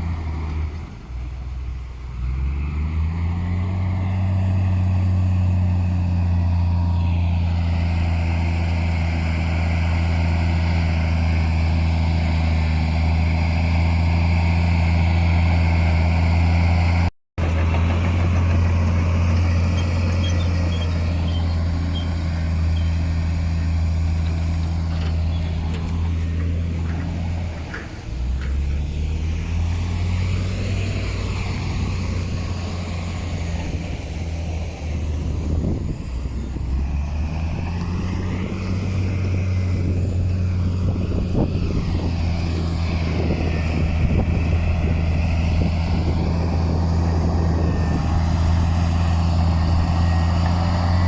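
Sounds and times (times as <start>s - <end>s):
diesel earthmoving machinery running: 0.0s - 51.0s.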